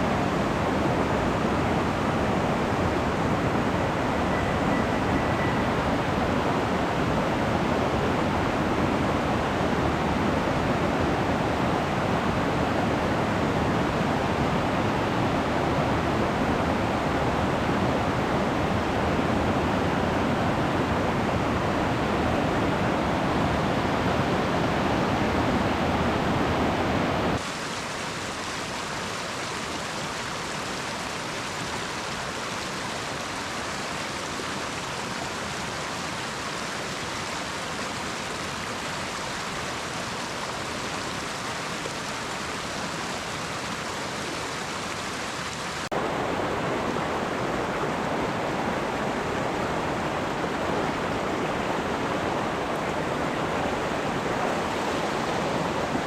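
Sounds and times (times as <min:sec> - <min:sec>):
fast-flowing stream water: 0:00.0 - 0:56.0.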